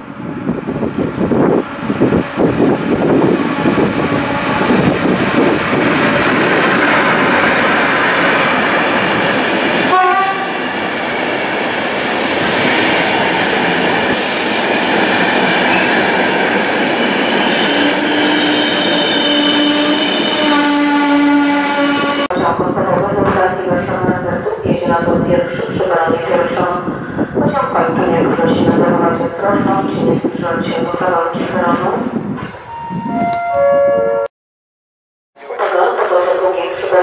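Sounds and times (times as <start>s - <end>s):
train rushing past on rails: 0.0s - 33.6s.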